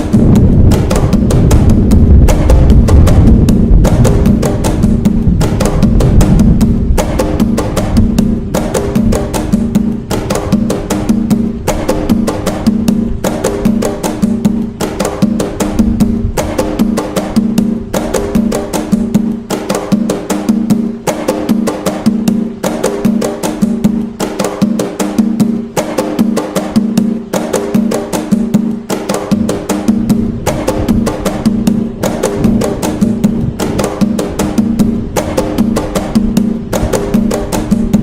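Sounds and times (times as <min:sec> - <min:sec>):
hand drumming: 0:00.0 - 0:38.0.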